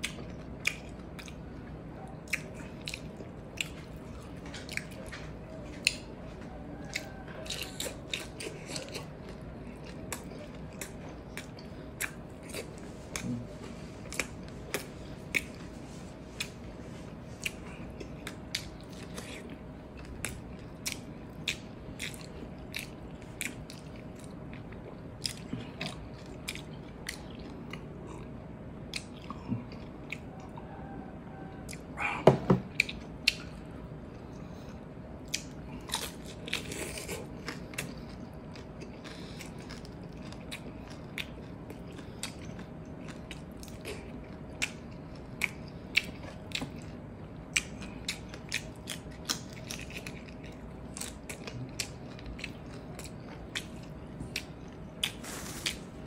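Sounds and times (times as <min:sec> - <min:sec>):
man chewing and crunching: 0:00.0 - 0:56.0.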